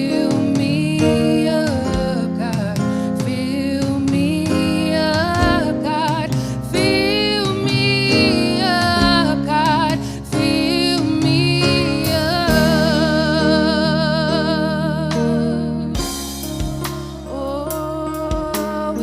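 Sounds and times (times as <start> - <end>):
person singing gospel melody: 0.0 - 19.0
sustained instrumental chords: 0.0 - 19.0.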